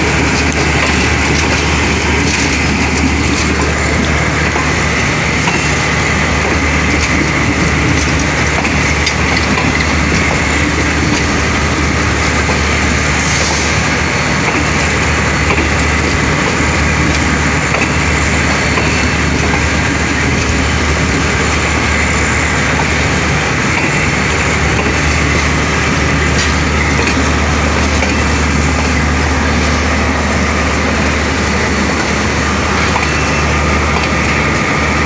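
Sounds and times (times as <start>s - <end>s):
train rumbling over tracks: 0.0s - 35.0s.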